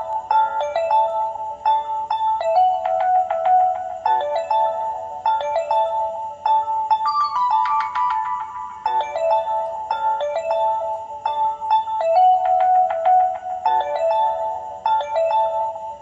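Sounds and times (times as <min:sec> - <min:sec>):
electronic ringtone tune: 0:00.0 - 0:16.0.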